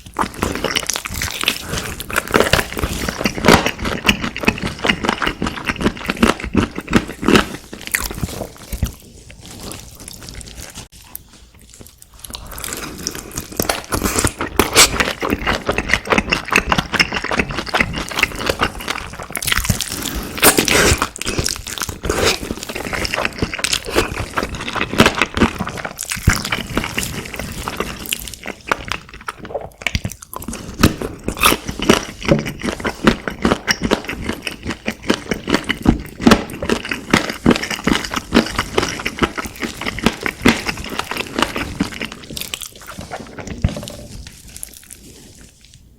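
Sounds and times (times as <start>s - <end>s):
crunching fried food: 0.0s - 45.4s.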